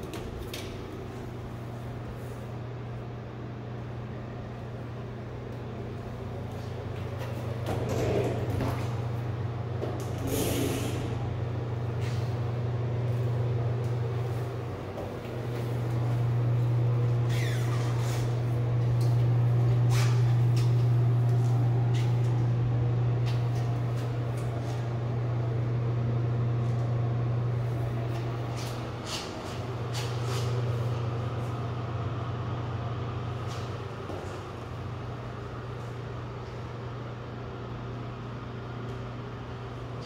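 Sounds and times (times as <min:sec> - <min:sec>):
low mechanical hum: 0:00.0 - 0:40.0.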